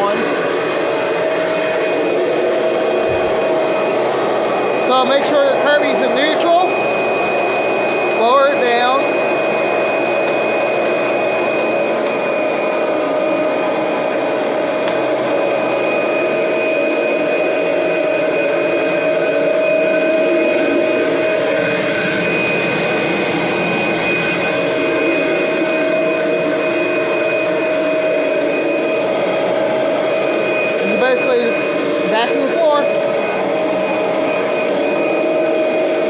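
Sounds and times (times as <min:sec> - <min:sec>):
upright vacuum running: 0:00.0 - 0:36.0.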